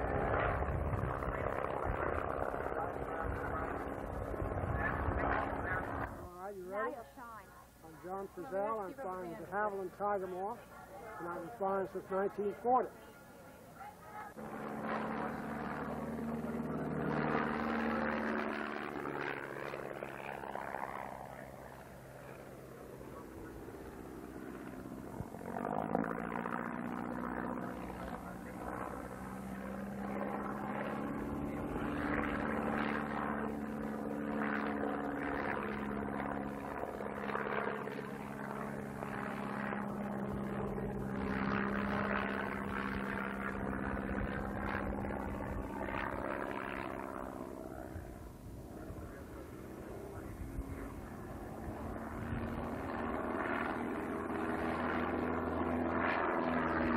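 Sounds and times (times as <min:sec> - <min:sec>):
plane engine and propeller droning: 0:00.0 - 0:56.9.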